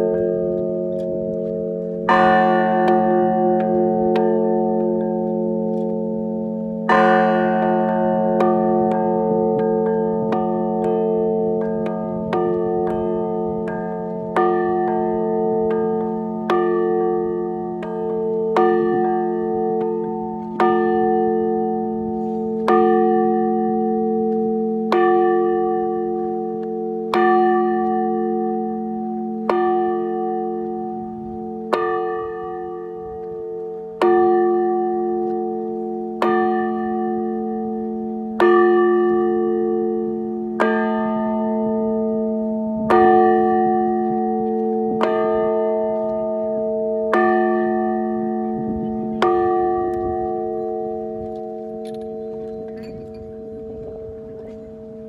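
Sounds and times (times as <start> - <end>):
large bell struck with mallets: 0.0 - 55.0.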